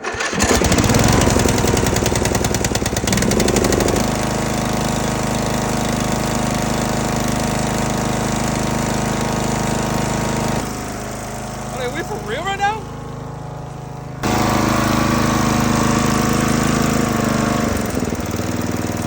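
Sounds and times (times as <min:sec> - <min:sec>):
mower engine running rough: 0:00.0 - 0:19.0.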